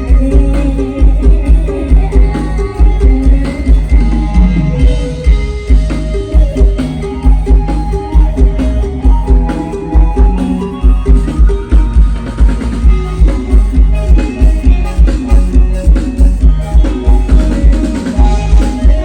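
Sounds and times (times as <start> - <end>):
upbeat band music with heavy bass: 0.0 - 19.0.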